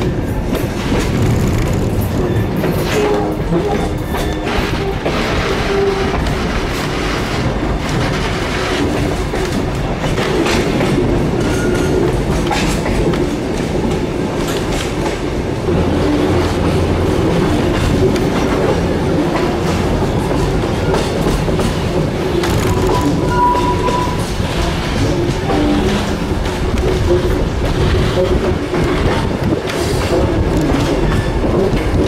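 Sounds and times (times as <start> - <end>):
train wheels rumbling on rail: 0.0 - 32.0
wheels clacking over rail joints: 0.0 - 32.0.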